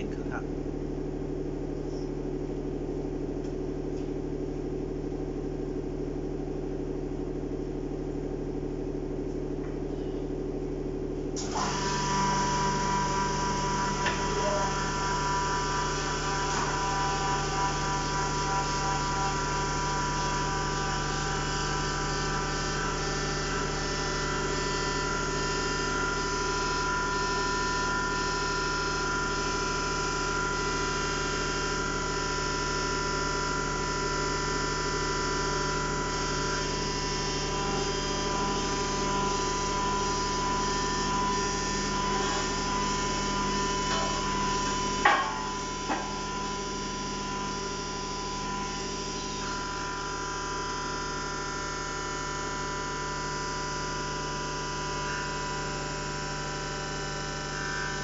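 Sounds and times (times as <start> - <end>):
hydraulic power unit humming: 0.0 - 58.0
hydraulic pump whine: 0.0 - 58.0.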